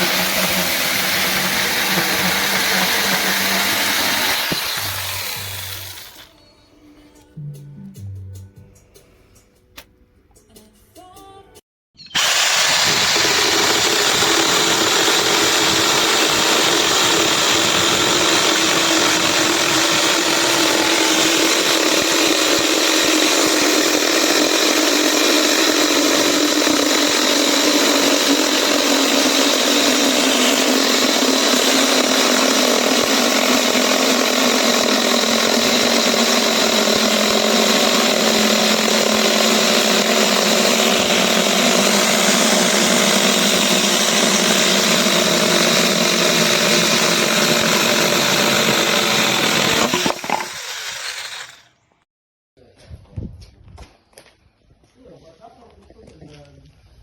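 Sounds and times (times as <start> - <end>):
mini chainsaw whining: 0.0 - 6.4, 12.1 - 51.8.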